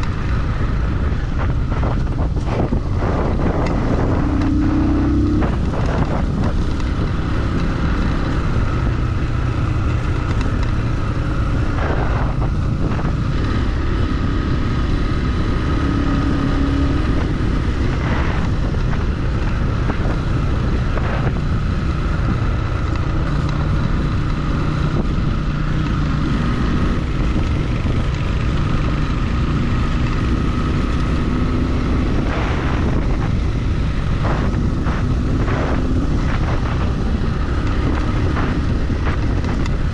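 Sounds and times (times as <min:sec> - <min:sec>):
motorcycle engine running: 0:00.0 - 0:39.9
rushing noise: 0:00.0 - 0:39.9.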